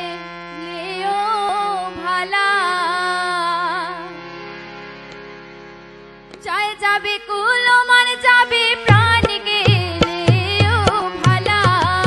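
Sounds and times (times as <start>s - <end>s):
woman singing: 0.0s - 4.2s, 6.4s - 12.0s.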